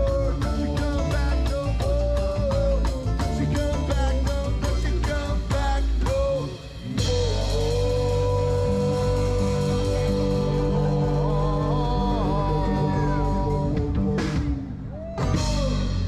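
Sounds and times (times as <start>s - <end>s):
live band playing: 0.0s - 16.0s
singer holding a long note: 0.0s - 16.0s.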